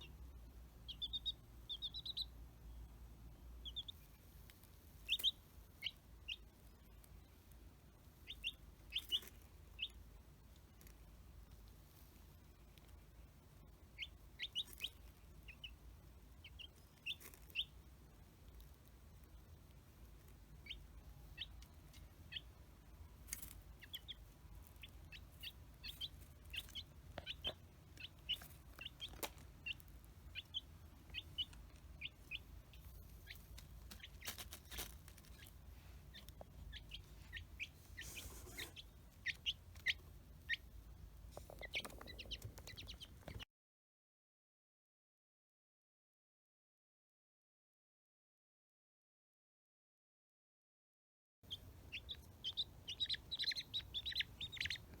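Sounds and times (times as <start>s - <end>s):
baby chick peeping: 0.0s - 43.4s, 51.5s - 55.0s.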